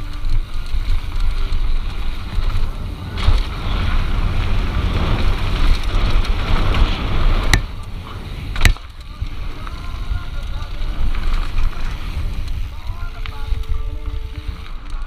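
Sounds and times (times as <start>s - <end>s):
tyres rolling over dirt and rock: 0.0s - 15.0s
wind buffeting microphone: 0.0s - 15.0s.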